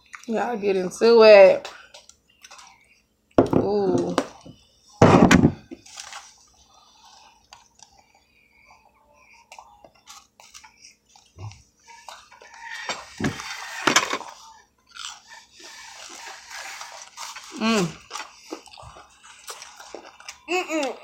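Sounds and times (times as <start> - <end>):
people chewing: 1.7 - 3.4, 5.7 - 21.0.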